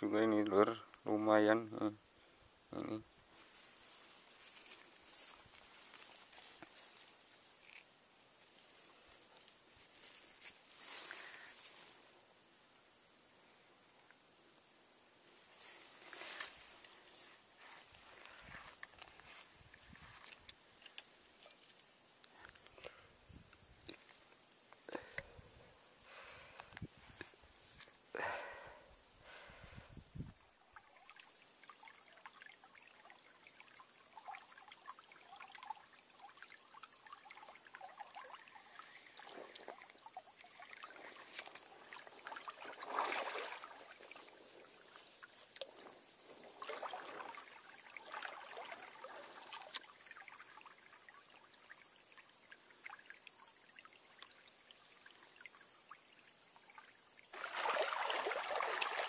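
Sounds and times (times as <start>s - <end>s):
stream trickling: 0.0s - 13.0s, 15.2s - 26.0s, 30.0s - 59.0s.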